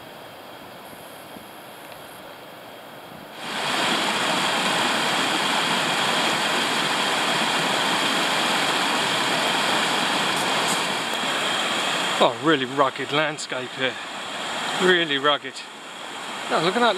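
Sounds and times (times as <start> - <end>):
stream rushing over rocks: 0.0 - 16.9.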